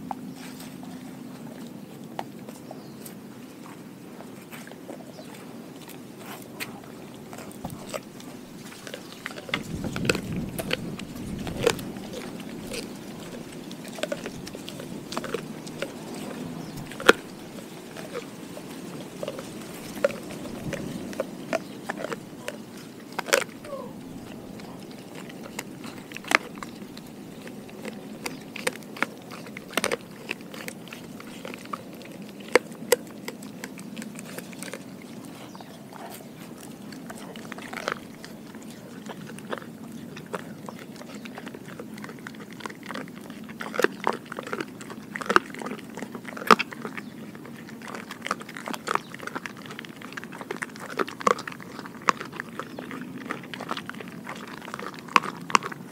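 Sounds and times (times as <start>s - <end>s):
dog chewing crunchy cartilage: 0.0s - 55.9s.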